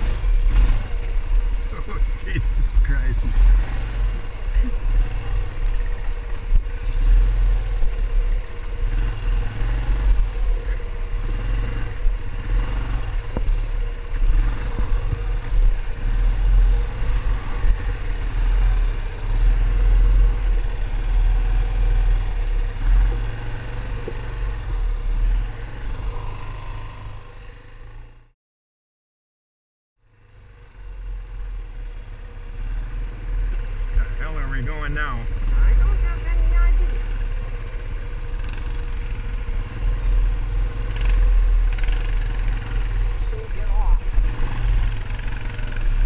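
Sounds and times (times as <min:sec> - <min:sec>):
quad bike engine running: 0:00.0 - 0:28.3, 0:30.1 - 0:46.0.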